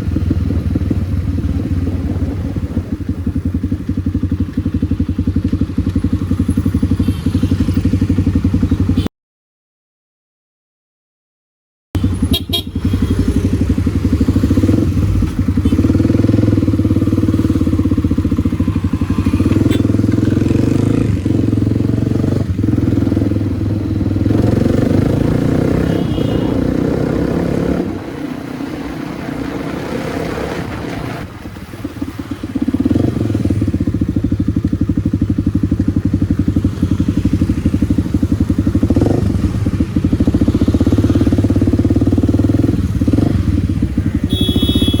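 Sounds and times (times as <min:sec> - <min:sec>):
motorcycle engine riding: 0:00.0 - 0:09.1, 0:12.0 - 0:45.0.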